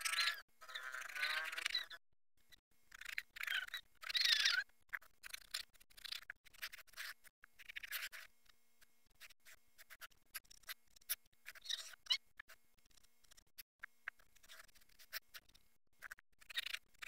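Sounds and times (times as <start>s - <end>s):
small clicks and crackles: 2.9s - 17.0s.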